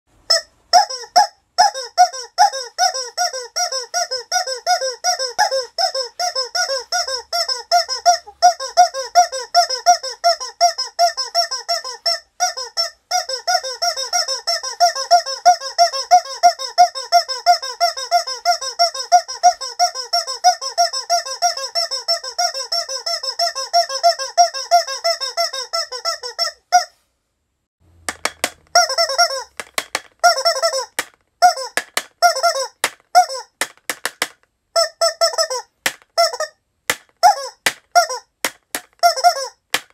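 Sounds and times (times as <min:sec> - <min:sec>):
squeaky rubber toy squeaking: 0:00.1 - 0:27.0, 0:28.1 - 0:39.9.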